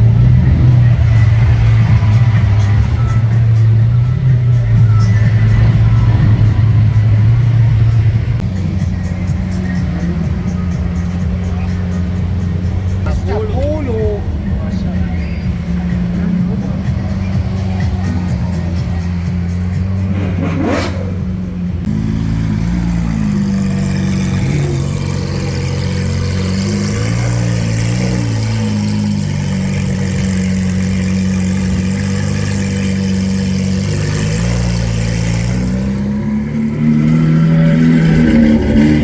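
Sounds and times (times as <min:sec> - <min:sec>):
car engine running at low revs: 0:00.0 - 0:39.0.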